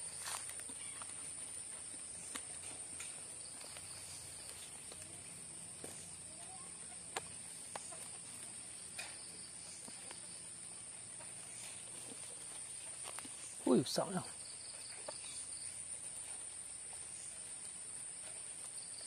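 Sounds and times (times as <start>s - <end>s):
crickets and insects chirping: 0.0s - 19.0s
footsteps in twigs and leaves: 0.0s - 19.0s.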